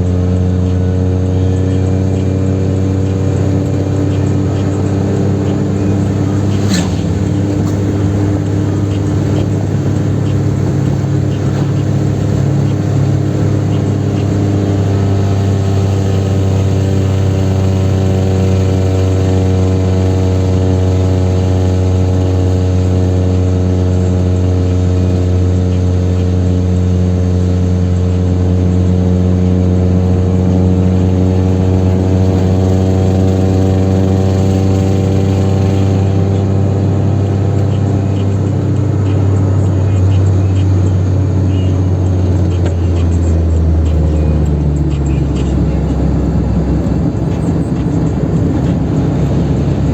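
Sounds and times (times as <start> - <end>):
car engine drone at speed: 0.0 - 49.9
pitched engine hum: 0.0 - 49.9
road and wind noise: 0.0 - 49.9.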